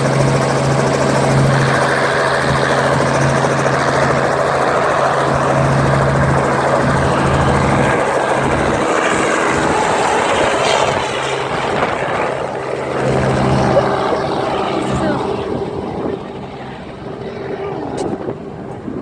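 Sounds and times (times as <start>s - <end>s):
helicopter rotor and engine hum: 0.0s - 19.0s.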